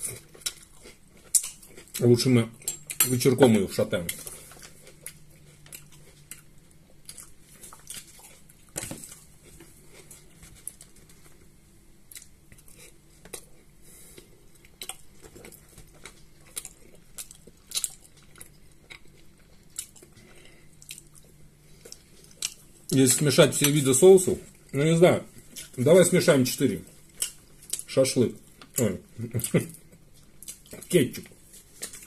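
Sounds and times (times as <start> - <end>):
quiet chewing with mouth clicks: 0.0 - 3.0, 4.0 - 23.0, 26.8 - 32.0.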